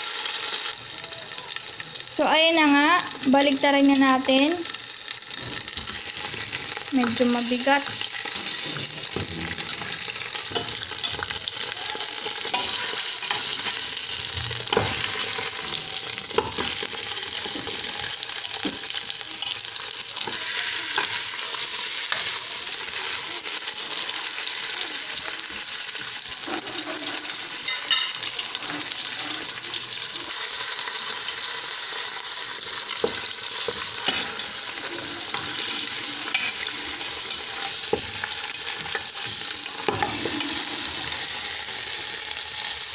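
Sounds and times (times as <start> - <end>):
meat searing in hot oil: 0.0 - 42.9.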